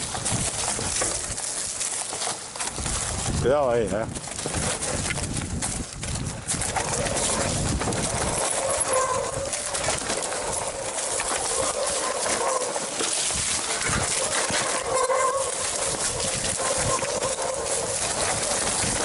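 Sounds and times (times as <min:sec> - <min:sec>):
bike rattling: 0:00.0 - 0:19.0
bike tyres over dirt and stones: 0:00.0 - 0:19.0.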